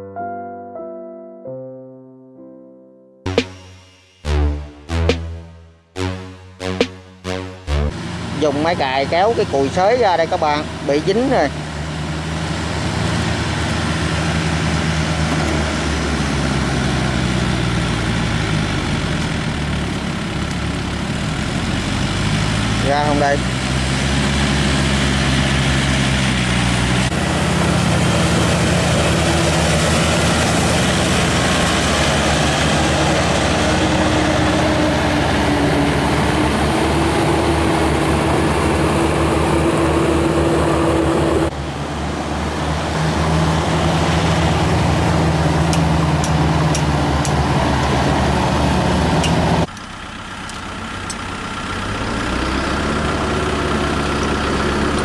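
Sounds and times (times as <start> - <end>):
tractor engine running: 3.3 - 55.0.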